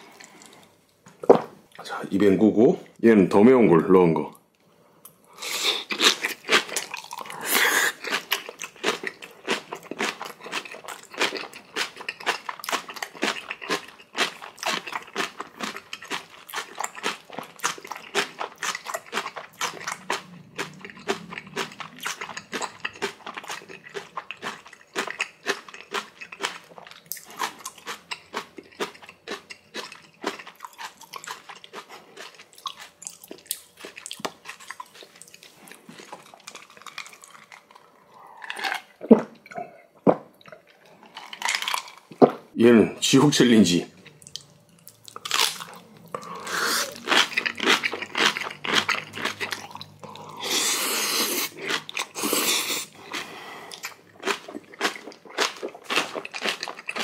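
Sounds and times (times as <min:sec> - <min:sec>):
crunching and chewing food: 0:00.0 - 0:01.0, 0:05.4 - 0:42.4, 0:43.2 - 0:57.0.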